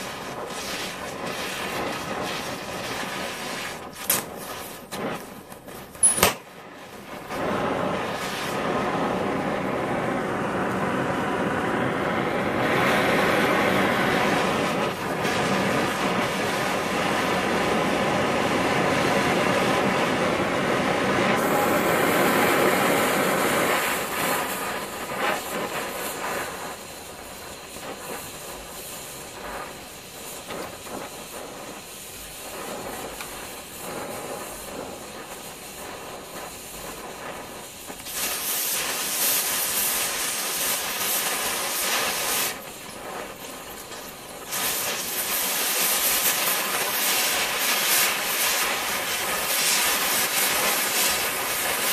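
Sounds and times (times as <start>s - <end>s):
cutting torch flame hissing: 0.0s - 51.9s.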